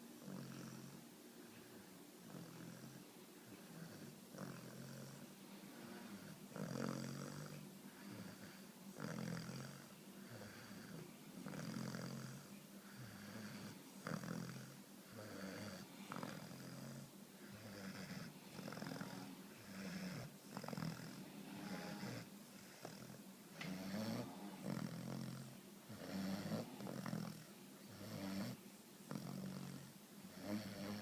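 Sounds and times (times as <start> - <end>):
puppy snoring: 0.2 - 1.0, 2.2 - 31.0.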